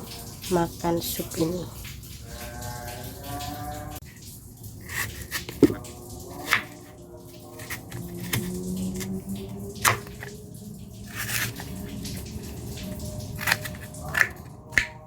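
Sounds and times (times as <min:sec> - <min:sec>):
water dripping and splashing: 0:00.0 - 0:15.0
water rushing: 0:00.0 - 0:15.0.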